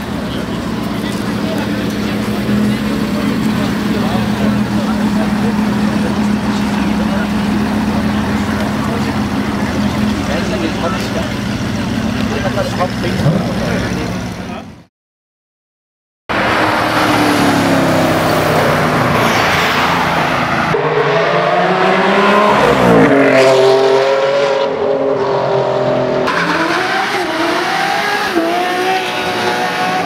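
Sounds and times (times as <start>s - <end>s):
car engine revving: 0.0s - 14.7s, 16.3s - 30.0s.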